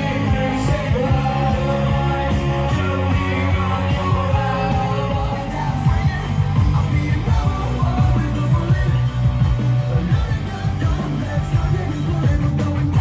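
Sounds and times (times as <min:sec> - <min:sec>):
rock song with singing: 0:00.0 - 0:13.0.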